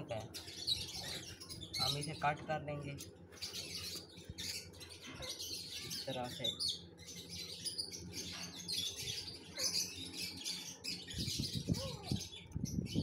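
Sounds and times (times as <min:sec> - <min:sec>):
caged birds chirping: 0:00.0 - 0:13.0
low arching bird calls: 0:00.0 - 0:13.0.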